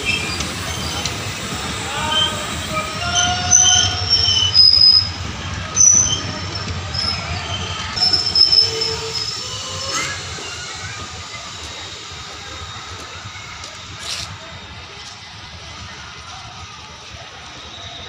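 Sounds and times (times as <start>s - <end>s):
low train rumble: 0.0s - 18.0s
train wheels and brakes squealing: 0.0s - 18.0s.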